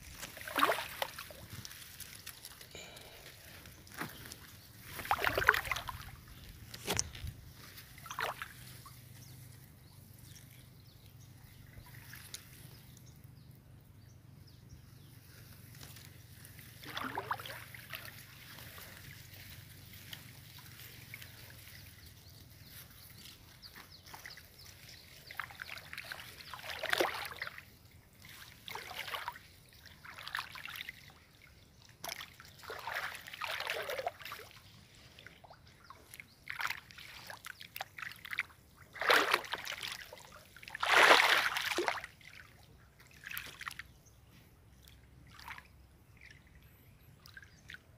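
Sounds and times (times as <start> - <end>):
splashing in shallow water: 0.0 - 10.8, 11.4 - 13.1, 15.4 - 44.0, 44.8 - 46.6
rustling through wet grass: 0.0 - 13.3, 14.8 - 46.3.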